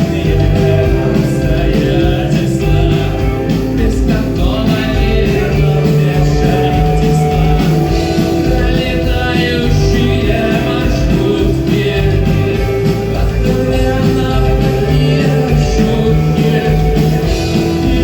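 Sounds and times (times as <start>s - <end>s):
live rock band: 0.0s - 18.0s
person singing: 0.0s - 18.0s.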